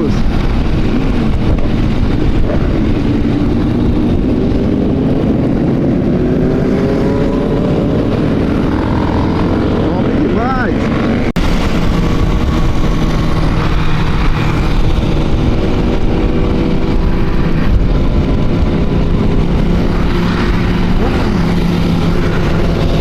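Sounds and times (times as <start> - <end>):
motorcycle engines running: 0.0 - 23.0
wind and road noise: 0.0 - 23.0.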